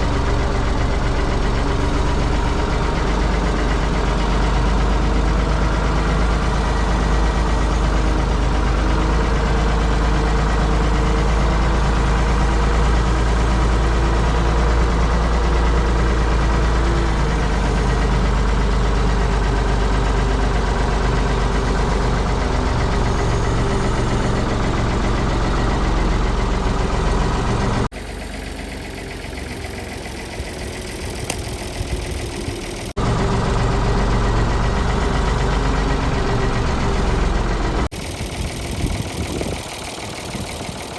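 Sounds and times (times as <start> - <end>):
backhoe engine running: 0.0 - 40.9.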